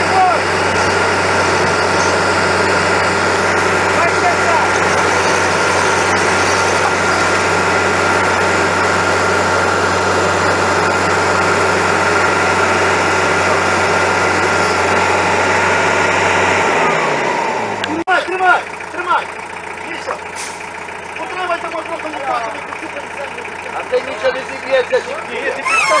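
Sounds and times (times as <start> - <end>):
loader engine running: 0.0 - 26.0.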